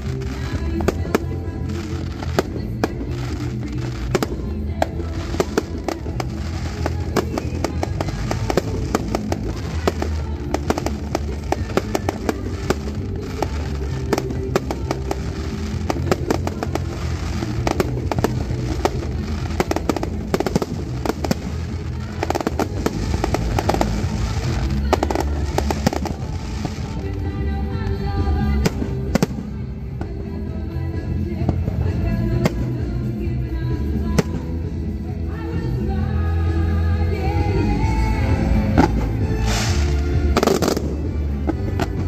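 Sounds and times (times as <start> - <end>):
firework bangs and crackles: 0.0 - 36.1, 37.2 - 42.0
music playing: 0.0 - 42.0.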